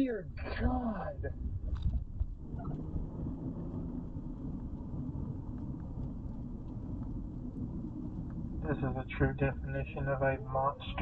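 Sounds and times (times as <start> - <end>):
faint low hum: 0.0 - 11.0
wind rumble on microphone: 0.0 - 11.0.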